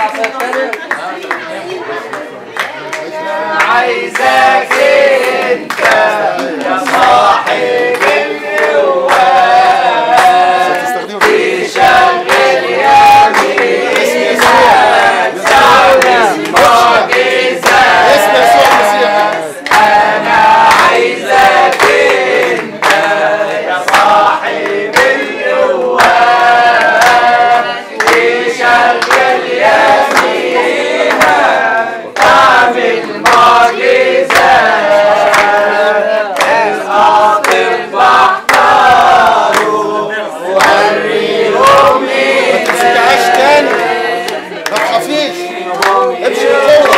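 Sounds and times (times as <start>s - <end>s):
crowd singing and calling out: 0.0s - 46.9s.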